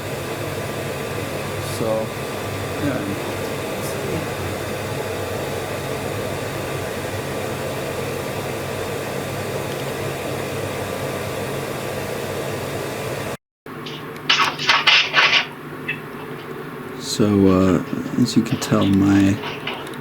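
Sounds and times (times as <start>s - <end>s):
steady hum with hiss: 0.0s - 20.0s.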